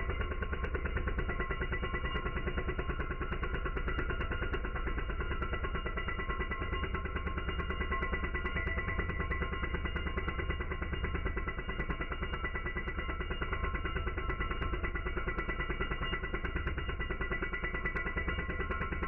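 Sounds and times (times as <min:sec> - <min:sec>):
slowed power tool drone: 0:00.0 - 0:19.0.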